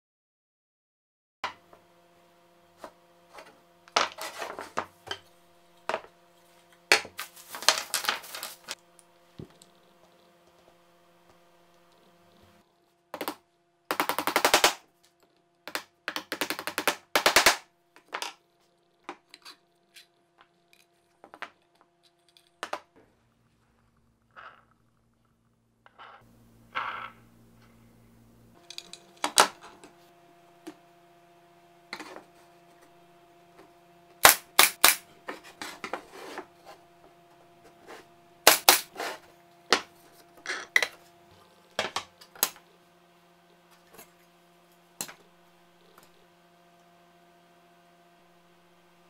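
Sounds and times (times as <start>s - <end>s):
faint steady hum: 1.5s - 49.0s.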